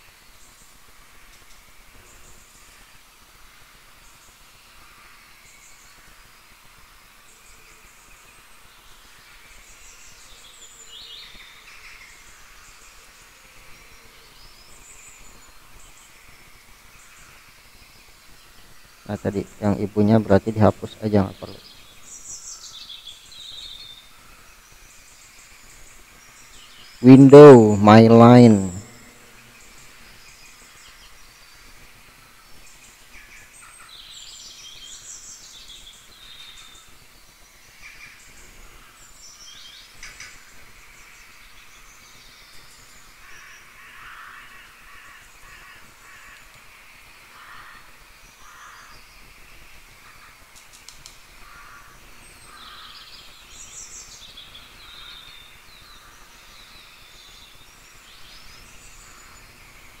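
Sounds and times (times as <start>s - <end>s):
low background noise: 0.0s - 60.0s
birds chirping: 7.2s - 60.0s.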